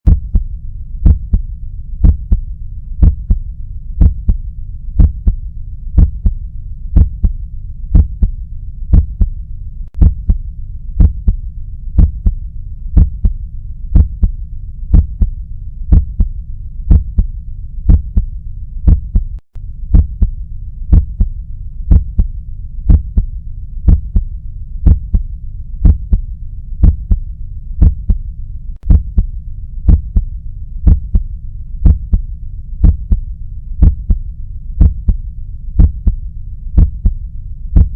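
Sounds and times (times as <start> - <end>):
continuous low rumble: 0.1 - 37.9
heartbeat lub-dub: 0.1 - 37.9.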